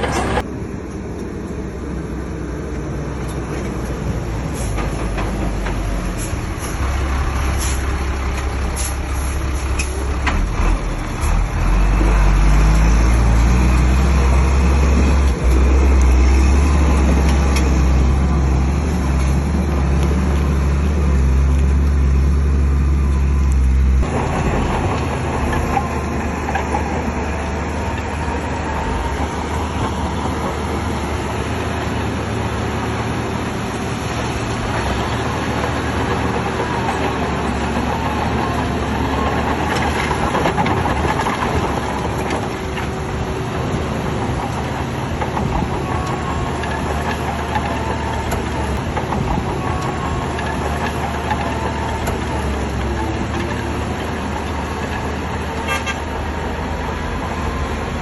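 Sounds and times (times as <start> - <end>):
steel tracks clattering and squealing: 0.0 - 0.4, 3.6 - 21.4, 24.0 - 58.0
bulldozer diesel engine under load: 0.0 - 58.0.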